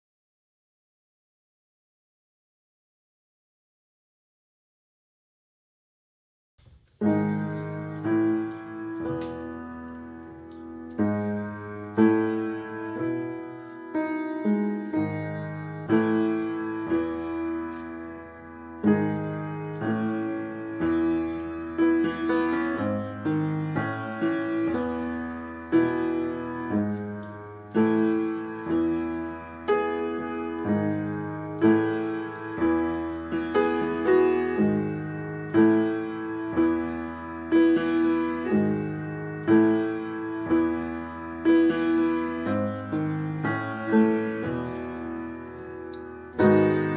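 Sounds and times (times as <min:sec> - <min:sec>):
gentle piano chords: 0:06.9 - 0:46.9.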